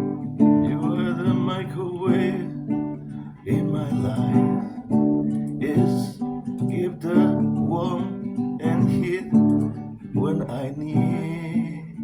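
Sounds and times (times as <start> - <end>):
acoustic guitar strumming: 0.0 - 12.0
wordless vocal line: 0.0 - 12.0.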